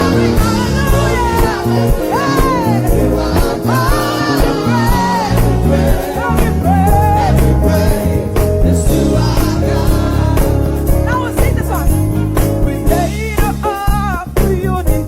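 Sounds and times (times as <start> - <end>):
gospel praise singing: 0.0 - 15.0
instrumental accompaniment with a beat: 0.0 - 15.0.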